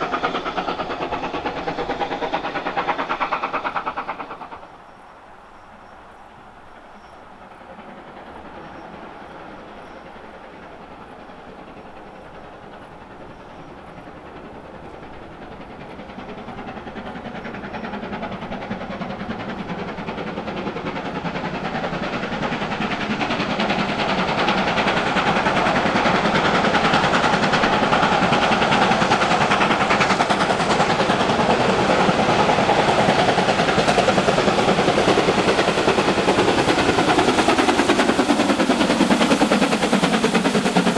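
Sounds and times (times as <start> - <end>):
steam locomotive exhaust: 0.0 - 40.9
train noise: 0.0 - 40.9.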